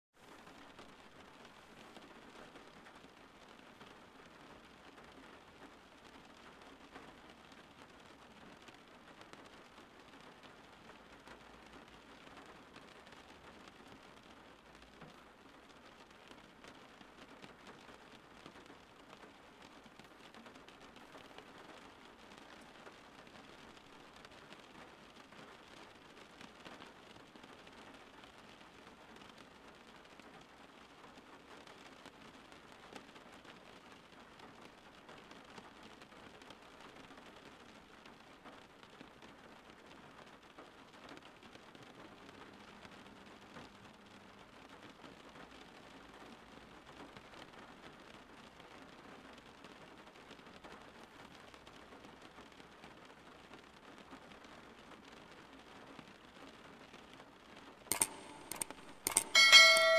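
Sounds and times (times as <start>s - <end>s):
faint rain patter: 0.1s - 59.9s.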